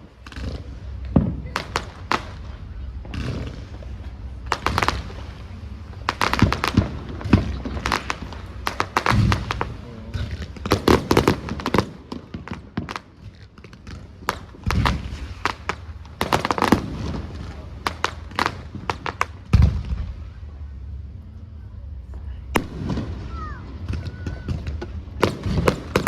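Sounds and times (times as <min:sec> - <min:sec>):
deep firework booms: 0:00.0 - 0:20.9, 0:22.2 - 0:26.0
fireworks bangs and crackling: 0:00.0 - 0:26.0.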